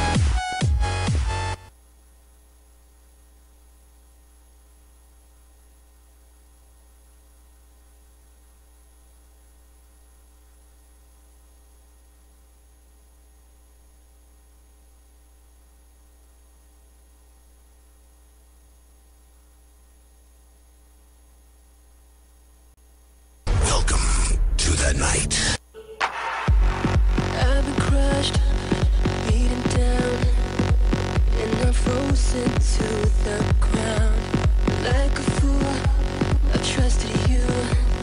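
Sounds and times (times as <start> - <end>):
faint mains hum with hiss: 0.0 - 38.0.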